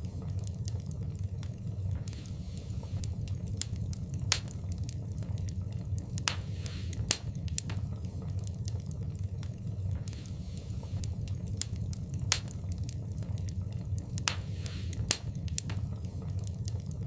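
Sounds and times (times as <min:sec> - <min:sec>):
fireplace fire crackling: 0:00.0 - 0:17.0
loud fire pops: 0:00.0 - 0:17.0
low rumble of fire: 0:00.0 - 0:17.0.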